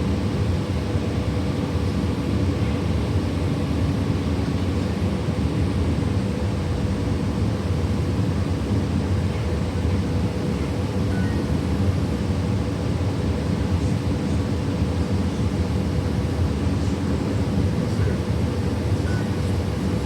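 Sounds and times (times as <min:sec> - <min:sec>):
faint constant hum: 0:00.0 - 0:20.0.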